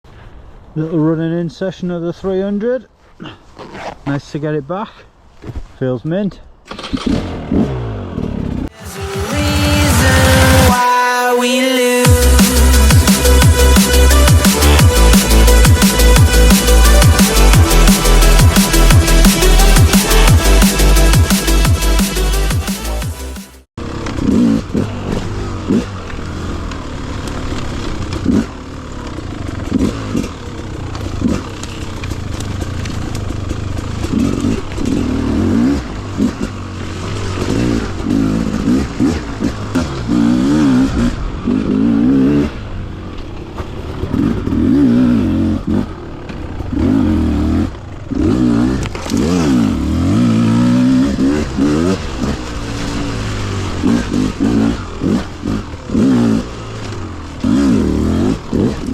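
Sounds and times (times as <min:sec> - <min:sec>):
motorcycle engine revving: 0:06.6 - 0:10.8, 0:12.0 - 0:58.9.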